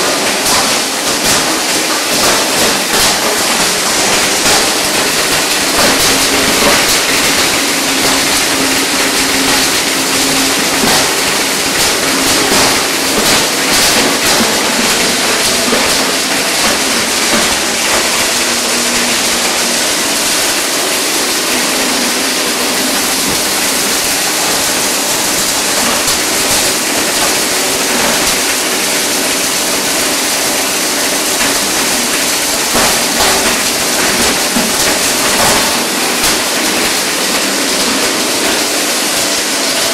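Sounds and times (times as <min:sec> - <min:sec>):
crackle of plastic being ground: 0:00.0 - 0:39.9
pipe grinder running: 0:00.0 - 0:39.9.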